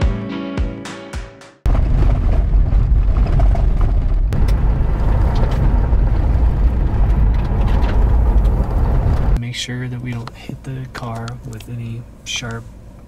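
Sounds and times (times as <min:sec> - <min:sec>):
car rumbling on dirt road: 0:01.7 - 0:13.0.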